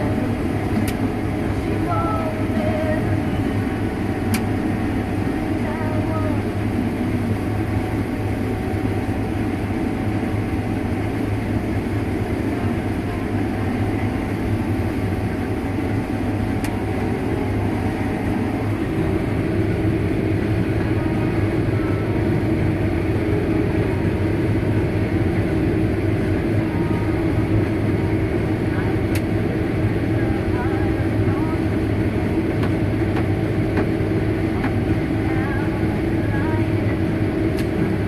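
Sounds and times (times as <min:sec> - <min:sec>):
heavy machinery engine drone: 0:00.0 - 0:38.0.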